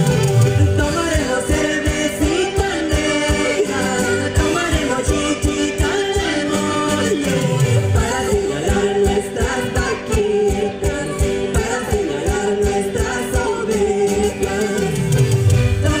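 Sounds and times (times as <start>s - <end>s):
accordion: 0.0s - 16.0s
guitars: 0.0s - 16.0s
voices singing: 0.8s - 16.0s.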